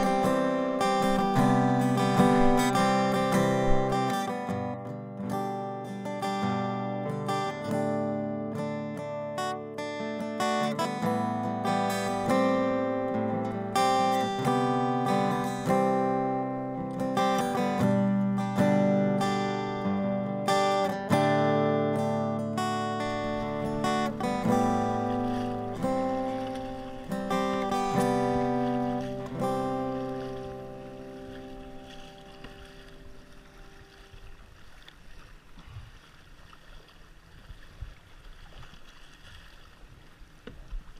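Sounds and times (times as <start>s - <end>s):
kayak paddle splashing: 0.0s - 4.8s, 10.5s - 40.9s
acoustic guitar instrumental: 0.0s - 34.8s.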